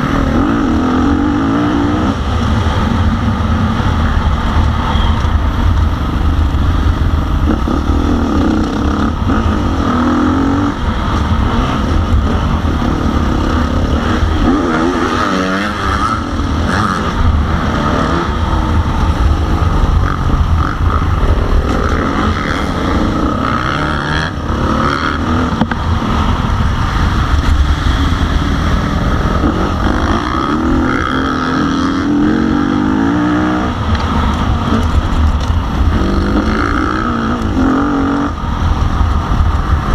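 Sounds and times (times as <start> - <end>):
motocross bike engine revving: 0.0 - 38.7.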